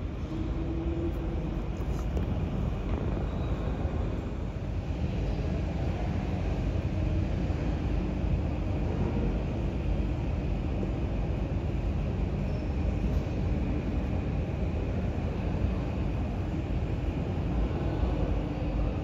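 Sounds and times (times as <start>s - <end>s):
aircraft and vehicle rumble: 0.0s - 19.0s
faint steady hum: 0.0s - 19.0s.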